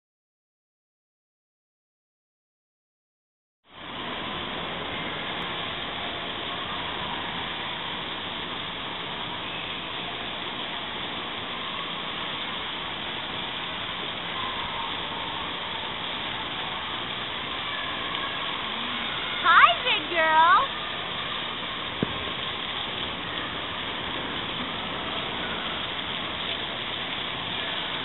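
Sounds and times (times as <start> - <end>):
spraying and splashing water: 3.7 - 28.0.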